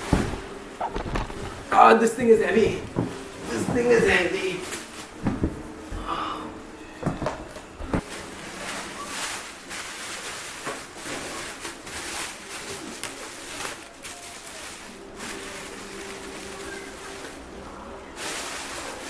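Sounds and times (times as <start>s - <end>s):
packaging rustling and scraping: 0.0s - 6.0s, 7.0s - 19.0s.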